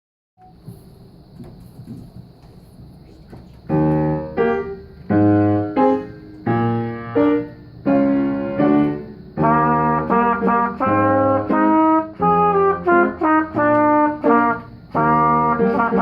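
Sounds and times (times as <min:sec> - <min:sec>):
piano chords: 0:02.8 - 0:16.0.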